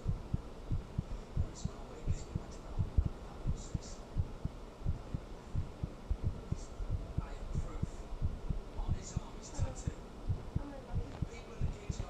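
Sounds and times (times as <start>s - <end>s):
heartbeat thumps: 0.0s - 12.0s
low background hum: 0.0s - 12.0s.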